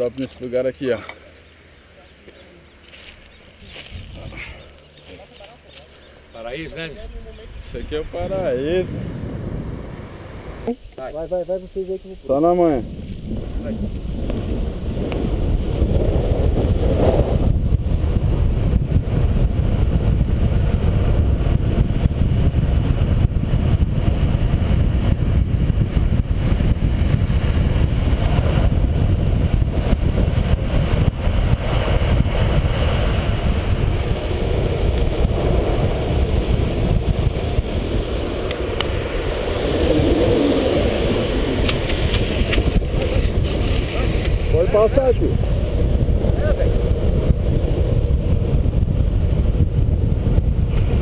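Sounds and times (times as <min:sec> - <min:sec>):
longboard wheels rolling on asphalt: 0:00.0 - 0:51.0
wind rushing on microphone: 0:02.9 - 0:51.0.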